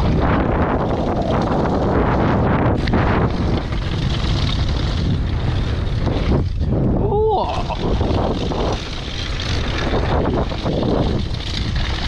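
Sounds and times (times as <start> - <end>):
bike clattering and rattling: 0.0 - 12.0
wind rushing over microphone: 0.0 - 12.0.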